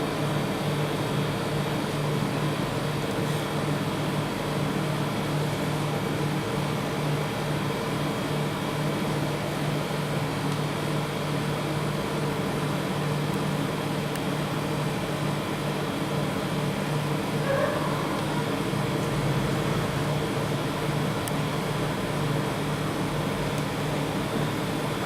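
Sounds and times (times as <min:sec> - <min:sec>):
refrigeration compressor humming: 0:00.0 - 0:25.0.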